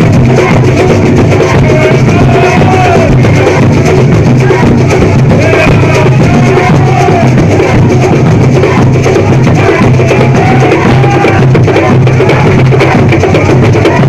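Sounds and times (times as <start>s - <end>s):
deep drums beating: 0.0s - 14.0s.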